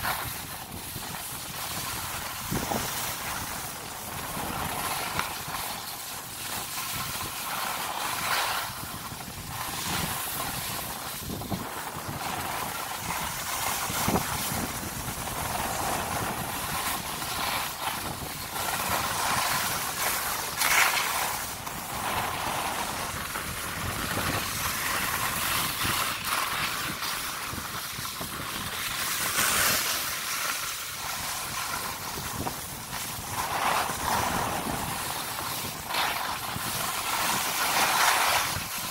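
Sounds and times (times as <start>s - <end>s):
skis sliding on snow: 0.0s - 38.9s.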